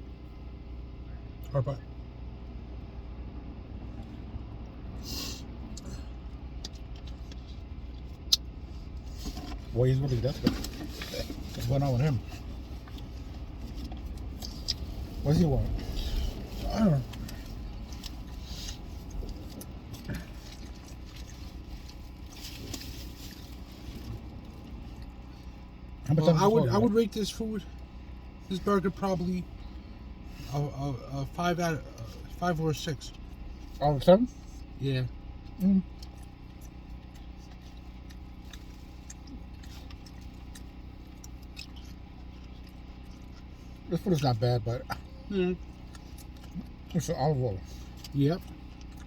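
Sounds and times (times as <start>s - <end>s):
low hum: 0.0s - 49.0s.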